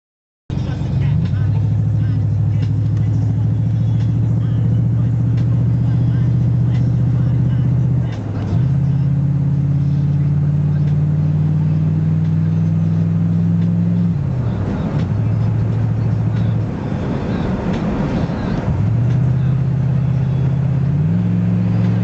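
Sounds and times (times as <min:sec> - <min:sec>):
car engine revving: 0:00.5 - 0:22.0.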